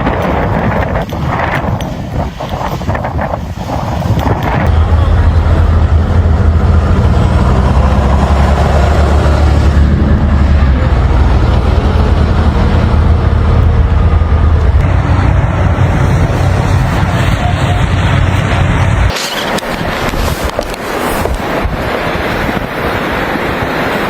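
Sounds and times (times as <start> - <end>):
road or wind noise: 0.0 - 24.0
vehicle engine rumble: 0.0 - 24.0.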